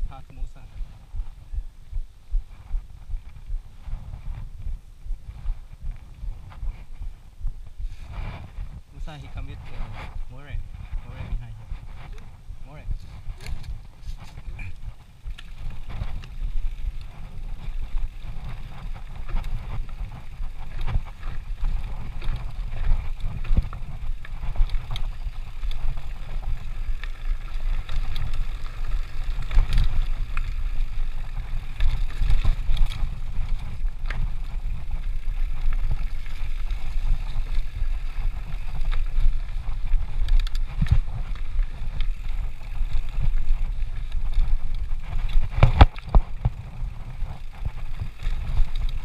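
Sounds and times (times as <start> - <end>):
wind buffeting microphone: 0.0 - 49.0
bike rattling over bumps: 3.0 - 49.0.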